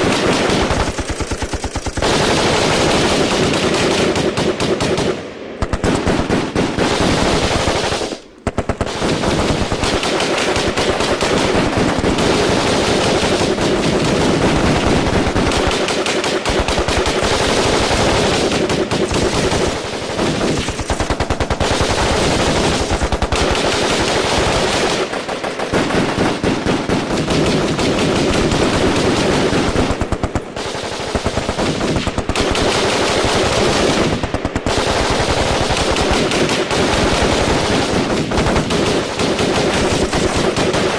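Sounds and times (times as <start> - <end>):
automatic gunfire: 0.0 - 40.9.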